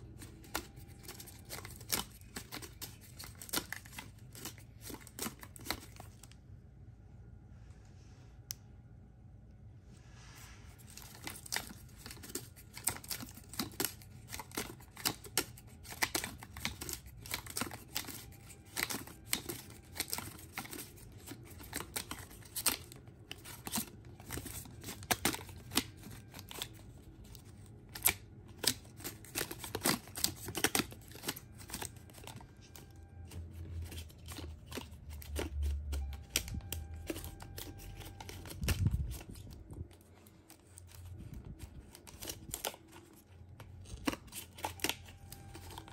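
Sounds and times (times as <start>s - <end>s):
cardboard model clicking and rustling: 0.0s - 6.3s, 10.8s - 45.9s.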